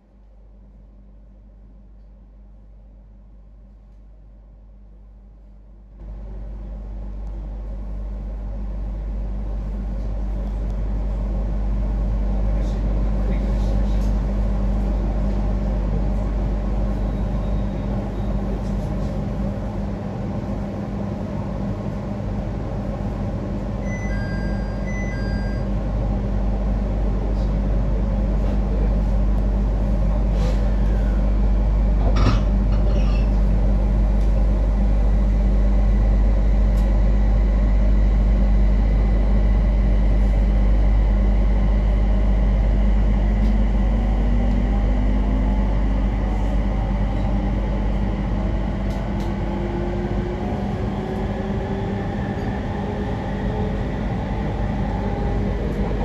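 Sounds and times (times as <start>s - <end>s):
train wheels rumbling on rail: 6.0s - 56.0s.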